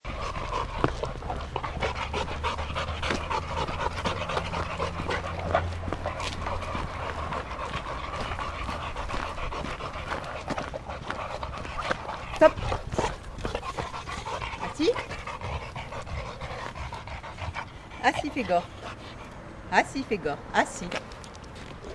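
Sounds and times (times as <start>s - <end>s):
dogs panting: 0.0s - 21.9s.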